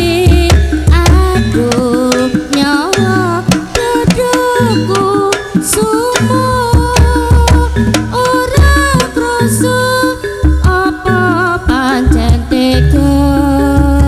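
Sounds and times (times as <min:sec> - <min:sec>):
hand drum strokes: 0:00.0 - 0:13.0
melody line bending between notes: 0:00.0 - 0:14.0
tuned percussion: 0:00.0 - 0:14.0.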